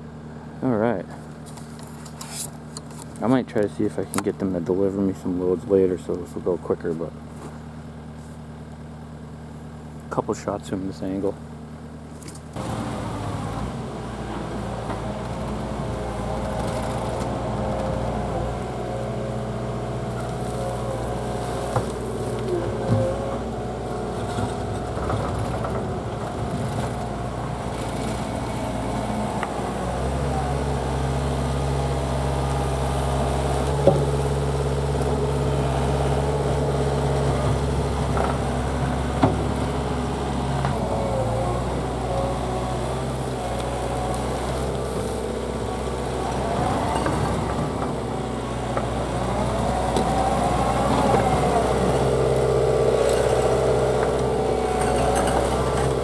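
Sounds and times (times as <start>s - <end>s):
diesel engine working: 0.0s - 56.0s.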